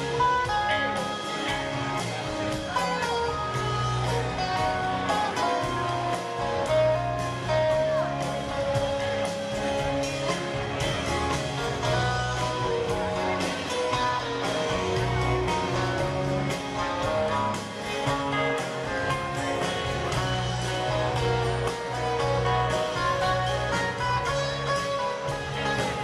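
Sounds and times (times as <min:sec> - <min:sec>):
string band playing: 0:00.0 - 0:26.0.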